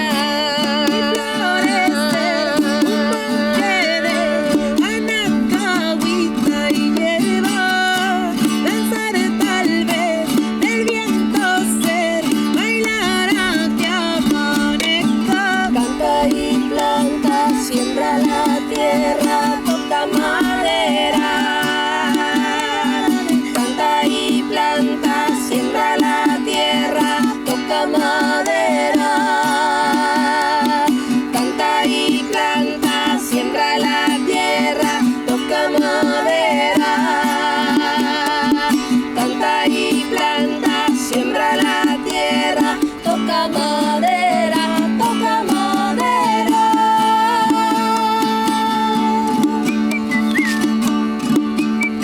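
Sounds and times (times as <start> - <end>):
acoustic folk instrumental: 0.0 - 52.0
plucked strings: 0.0 - 52.0
wavering held melody: 0.0 - 52.0.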